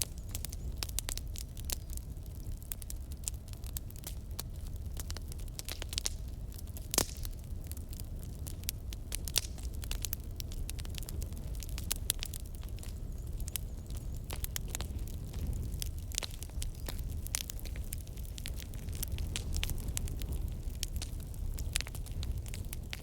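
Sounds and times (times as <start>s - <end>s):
low steady fire rumble: 0.0s - 23.0s
wood fire crackling and popping: 0.0s - 23.0s.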